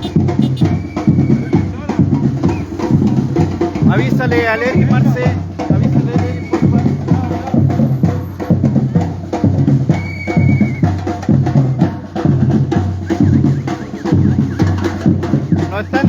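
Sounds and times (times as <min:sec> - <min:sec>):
samba drums playing: 0:00.0 - 0:16.0.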